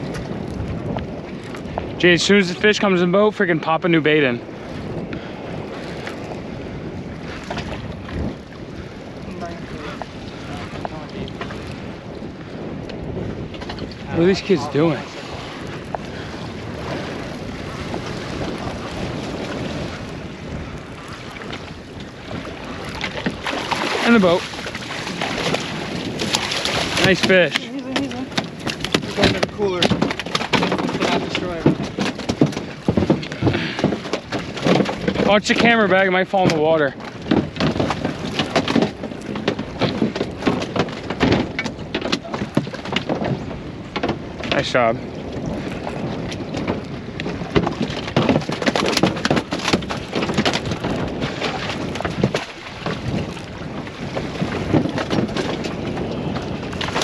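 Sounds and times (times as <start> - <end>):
sea washing against boat hull: 0.0 - 57.0
wind rushing over microphone: 0.0 - 57.0.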